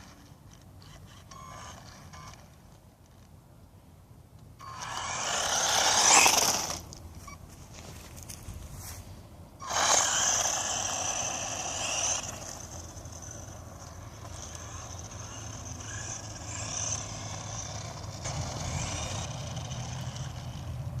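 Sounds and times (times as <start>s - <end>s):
small electric motor whining: 0.0s - 3.3s, 4.6s - 7.9s, 9.6s - 21.0s
tyres on the ground: 0.0s - 21.0s.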